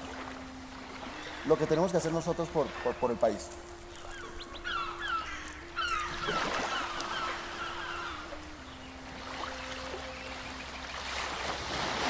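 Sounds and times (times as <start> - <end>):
birds squawking: 0.9 - 11.1.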